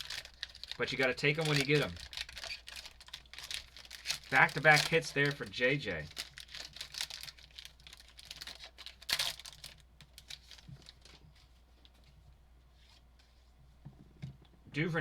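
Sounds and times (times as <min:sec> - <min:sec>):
packaging crinkle: 0:00.0 - 0:12.0
cards and packaging handled: 0:00.0 - 0:12.1.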